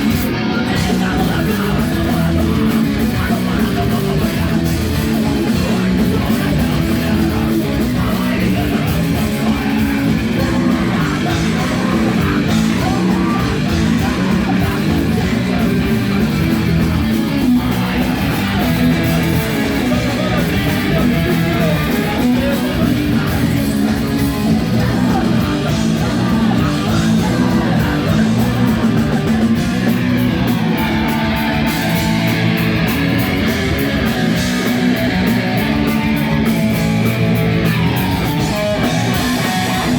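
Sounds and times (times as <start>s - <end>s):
bass guitar: 0.0s - 39.9s
drums: 0.0s - 39.9s
electric guitars: 0.0s - 39.9s.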